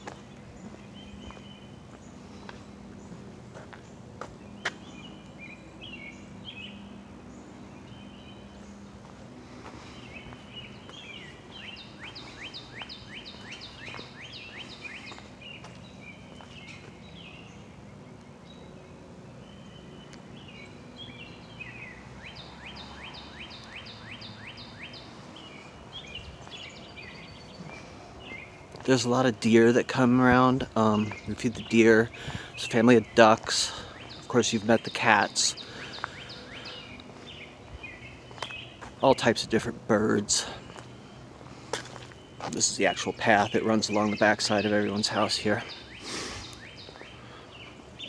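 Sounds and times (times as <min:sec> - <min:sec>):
songbirds chirping: 0:00.0 - 0:48.0.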